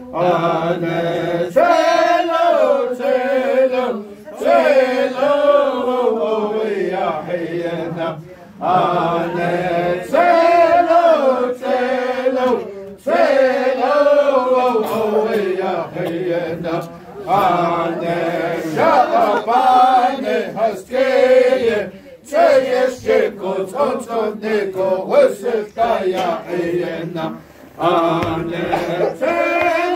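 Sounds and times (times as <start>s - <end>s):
voices chanting a song: 0.0s - 29.9s.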